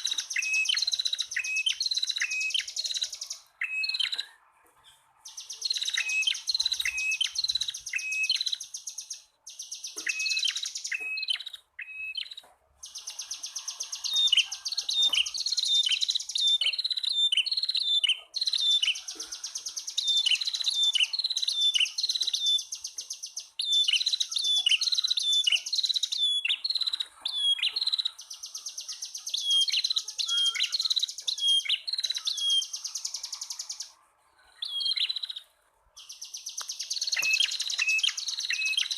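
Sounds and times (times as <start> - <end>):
bird sharp chirps: 0.0 - 38.9.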